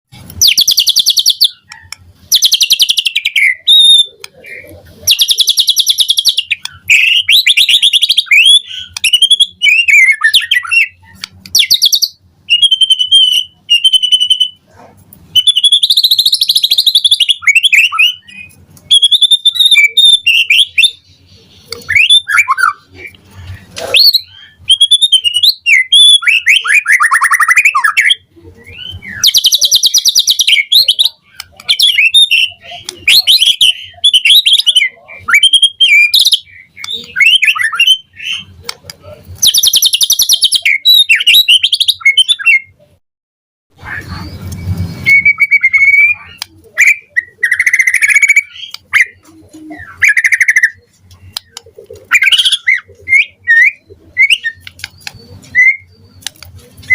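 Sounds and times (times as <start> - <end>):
bird singing varied song: 0.1 - 43.0, 43.8 - 56.9.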